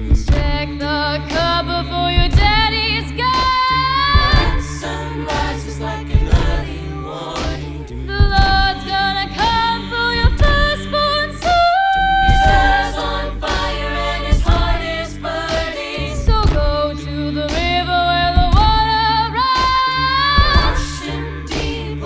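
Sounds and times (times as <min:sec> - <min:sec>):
beatboxed vocal percussion: 0:00.0 - 0:22.0
deep sung bass line: 0:00.0 - 0:22.0
group singing in close harmony: 0:00.0 - 0:22.0.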